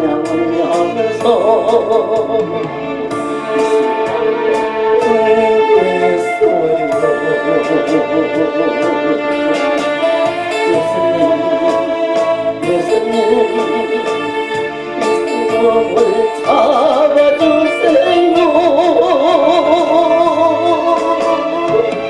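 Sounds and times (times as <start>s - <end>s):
backing music with steady beat: 0.0s - 22.0s
man singing with vibrato: 0.0s - 22.0s.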